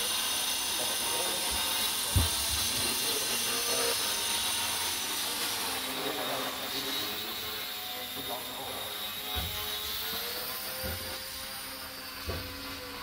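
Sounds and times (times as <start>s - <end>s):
model aircraft motor whine: 0.0s - 13.0s.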